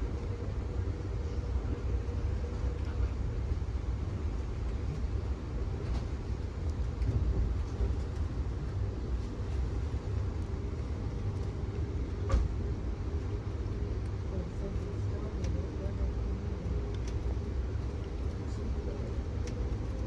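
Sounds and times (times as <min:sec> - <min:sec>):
train rumbling in motion: 0:00.0 - 0:20.0.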